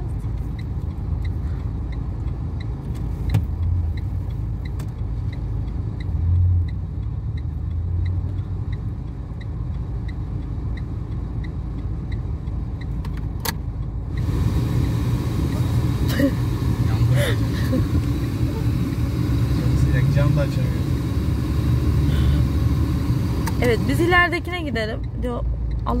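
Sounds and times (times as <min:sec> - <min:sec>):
car engine hum: 0:00.0 - 0:26.0
turn signal ticking: 0:00.0 - 0:26.0.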